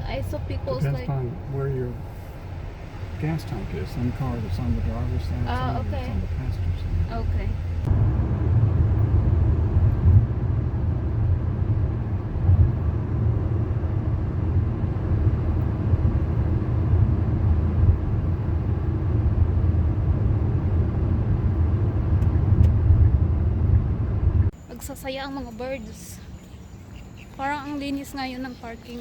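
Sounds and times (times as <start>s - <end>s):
car rumbling on road: 0.0s - 29.0s.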